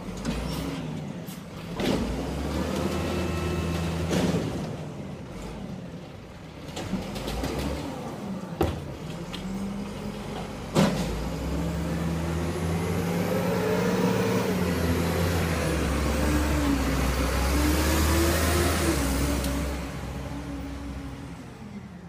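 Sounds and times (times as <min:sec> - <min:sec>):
garbage truck engine revving: 0:00.0 - 0:22.0.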